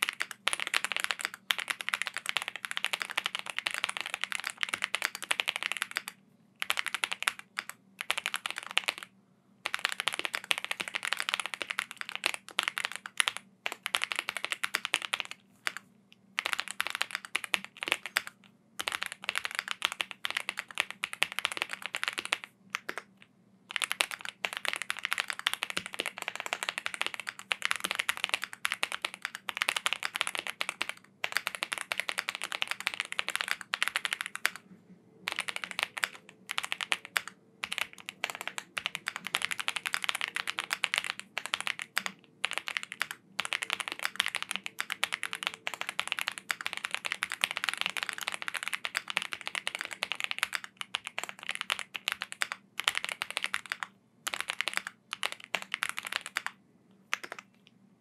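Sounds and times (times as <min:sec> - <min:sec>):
mechanical keyboard typing: 0:00.0 - 0:15.8, 0:16.4 - 0:34.6, 0:35.2 - 0:57.6.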